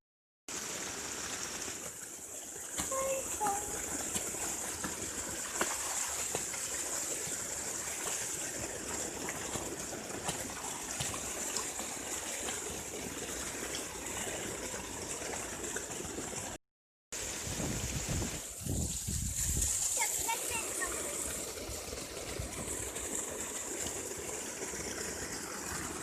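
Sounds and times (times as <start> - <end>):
water rushing and splashing: 0.5 - 16.6, 17.2 - 26.0.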